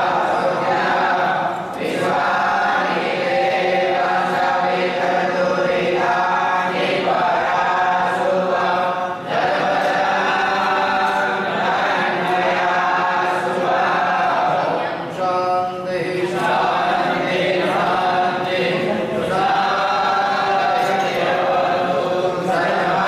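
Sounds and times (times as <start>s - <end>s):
group of voices chanting: 0.0s - 15.3s, 15.9s - 23.0s.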